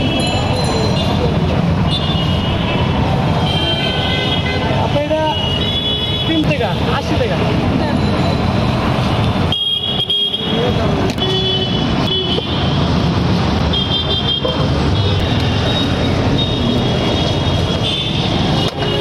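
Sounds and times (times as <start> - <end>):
busy road traffic: 0.0 - 19.0.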